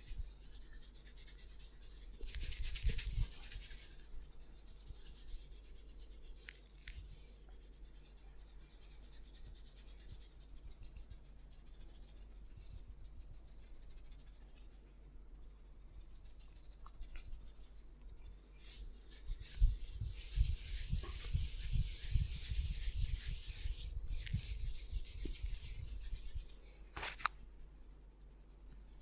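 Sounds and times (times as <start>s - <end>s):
hands rubbing oiled skin: 0.0s - 29.0s.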